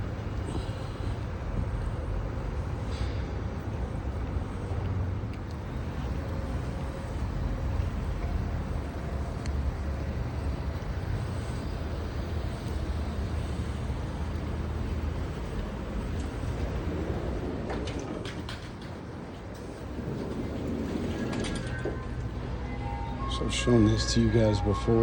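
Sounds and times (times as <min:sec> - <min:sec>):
low rumble of vehicles: 0:00.0 - 0:25.0
road noise: 0:00.0 - 0:25.0.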